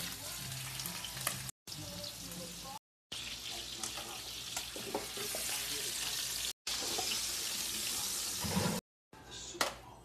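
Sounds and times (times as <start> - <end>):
chicken frying in hot oil: 0.0 - 8.8.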